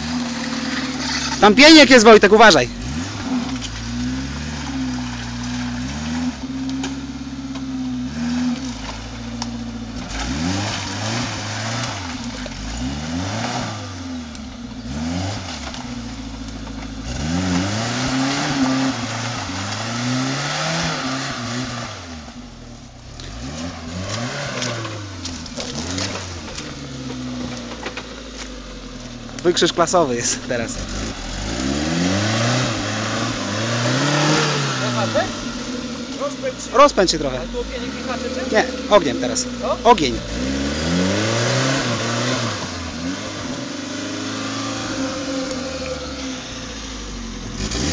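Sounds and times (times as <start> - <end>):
off-road engine revving: 0.0 - 47.9.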